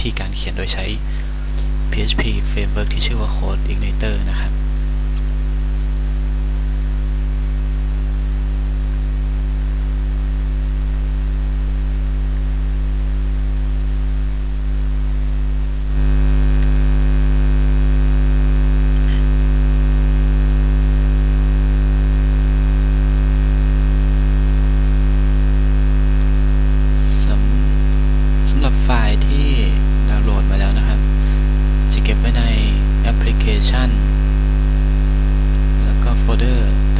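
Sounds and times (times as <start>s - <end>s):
electrical mains hum: 0.0s - 36.9s.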